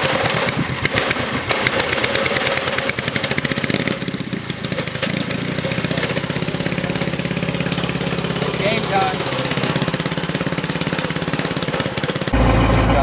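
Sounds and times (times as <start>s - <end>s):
mini bike engine running: 0.0s - 13.0s.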